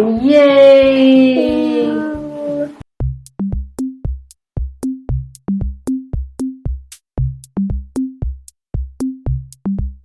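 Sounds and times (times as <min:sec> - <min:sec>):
electronic drum machine beat: 0:00.0 - 0:10.0.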